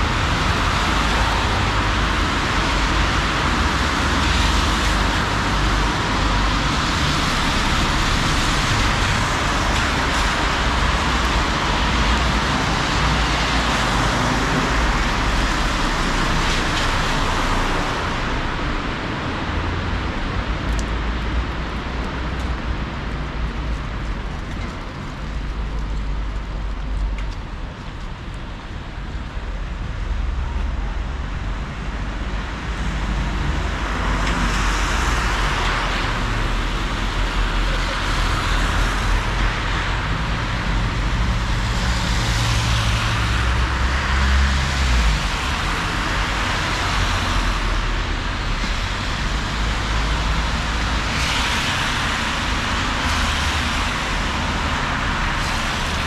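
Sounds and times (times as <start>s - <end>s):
tyres hissing on wet road: 0.0s - 24.0s, 28.1s - 56.0s.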